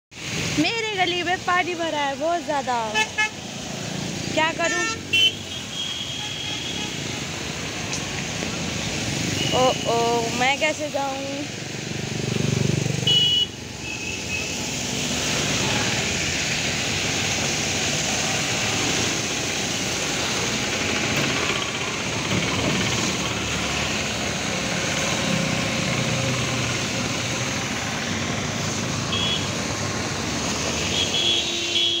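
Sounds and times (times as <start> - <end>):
tyres splashing through water: 0.1 - 32.0
scooters and truck driving: 0.2 - 32.0.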